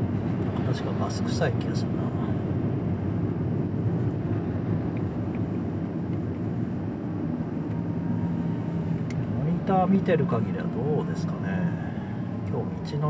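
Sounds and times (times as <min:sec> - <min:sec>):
road noise rumble: 0:00.0 - 0:13.0.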